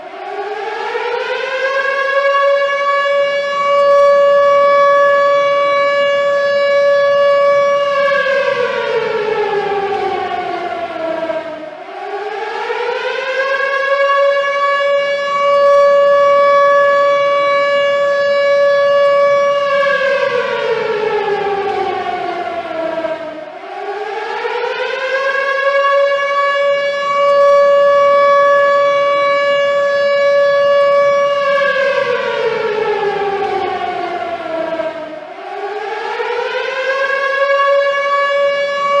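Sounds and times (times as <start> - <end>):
air raid siren wailing: 0.0 - 39.0.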